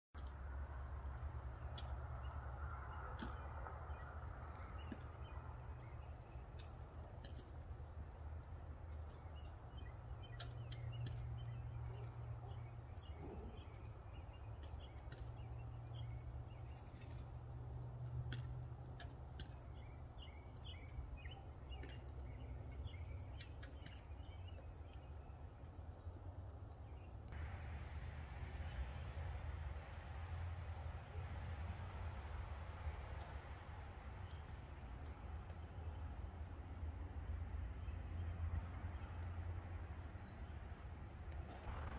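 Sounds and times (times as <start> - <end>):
low steady rumble: 0.2 - 41.9
small birds chirping: 0.2 - 41.9.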